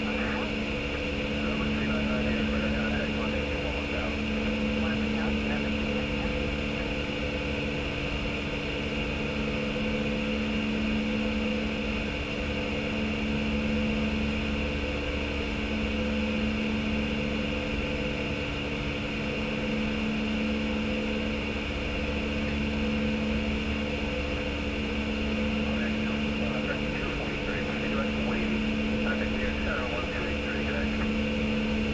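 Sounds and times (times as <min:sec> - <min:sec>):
machinery drone: 0:00.0 - 0:31.9.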